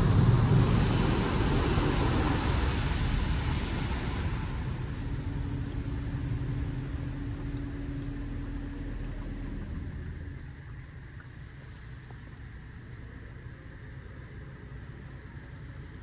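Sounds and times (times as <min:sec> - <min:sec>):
car wash machinery rumble and hiss: 0:00.0 - 0:16.0
steady hum: 0:00.0 - 0:16.0.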